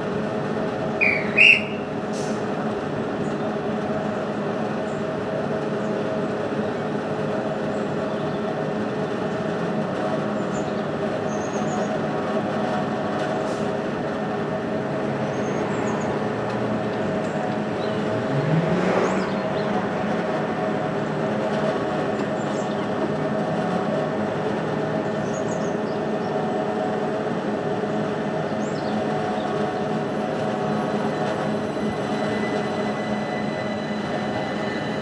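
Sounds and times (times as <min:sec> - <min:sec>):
electric train running: 0:00.2 - 0:35.0.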